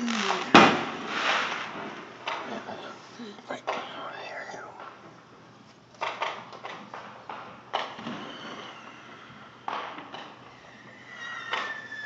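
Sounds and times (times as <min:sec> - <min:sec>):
fireworks bangs: 0:00.0 - 0:04.0, 0:06.0 - 0:12.0.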